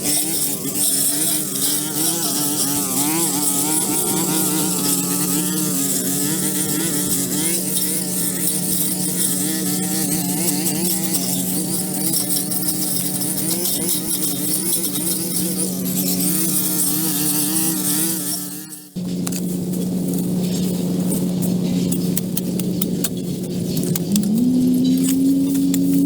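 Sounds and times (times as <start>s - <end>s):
pressure washer engine humming: 0.0s - 16.6s, 19.0s - 26.0s.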